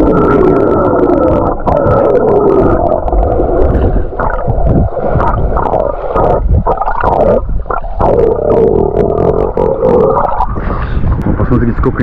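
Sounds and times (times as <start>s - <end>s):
underwater rushing and gurgling: 0.0s - 12.0s.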